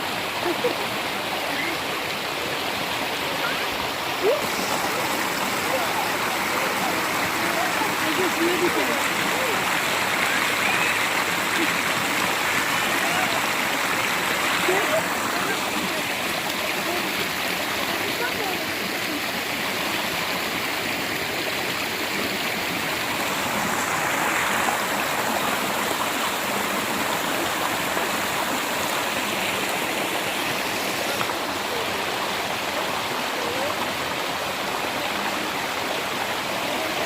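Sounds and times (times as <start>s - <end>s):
creek water flowing: 0.0s - 37.0s.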